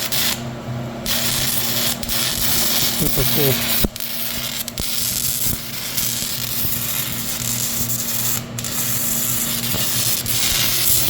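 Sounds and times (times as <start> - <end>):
welding arc crackling and hissing: 0.0 - 0.4, 1.0 - 11.0
steady low hum: 0.0 - 11.0.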